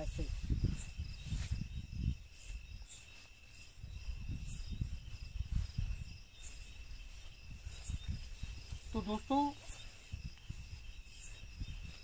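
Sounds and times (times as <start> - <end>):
crickets trilling: 0.0 - 12.0
footsteps through grass: 0.0 - 12.0.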